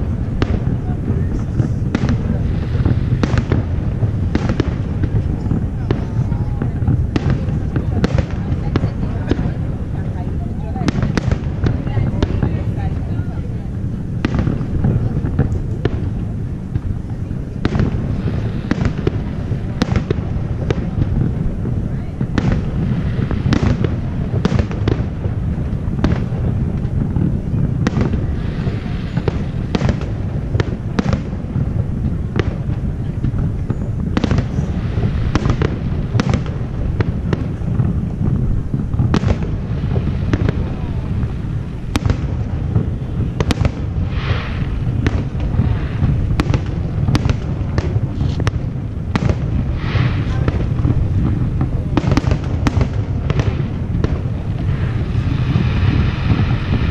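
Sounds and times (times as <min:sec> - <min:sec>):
fireworks bursting: 0:00.0 - 0:56.9
low rumble: 0:00.0 - 0:56.9.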